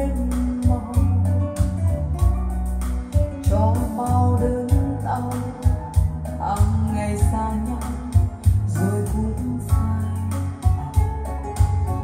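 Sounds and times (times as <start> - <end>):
song with guitar and heavy bass: 0.0 - 12.0.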